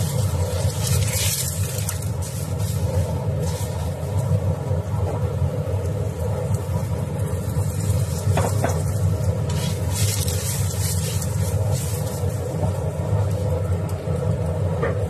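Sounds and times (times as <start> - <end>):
flatbread sizzling in oil: 0.0 - 13.7
steady low rumble: 0.0 - 15.0.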